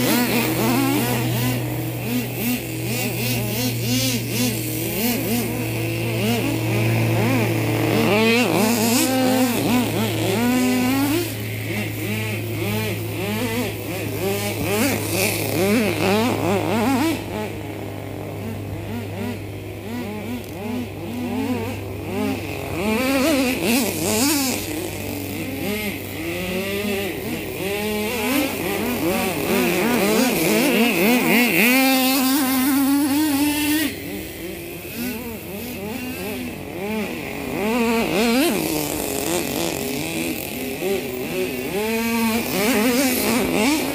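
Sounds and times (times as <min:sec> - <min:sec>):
small engine revving: 0:00.0 - 0:43.9.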